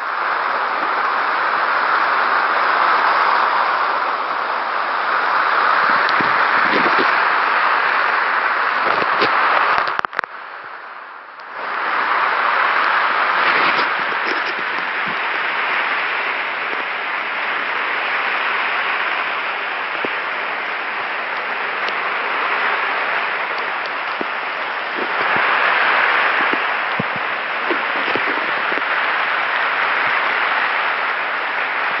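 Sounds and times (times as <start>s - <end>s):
surf rushing: 0.0s - 32.0s
wind: 0.0s - 32.0s.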